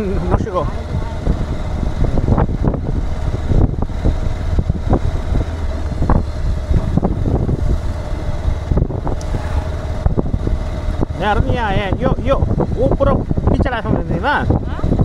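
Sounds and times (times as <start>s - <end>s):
road vehicle noise: 0.0s - 15.0s
wind buffeting microphone: 0.0s - 15.0s.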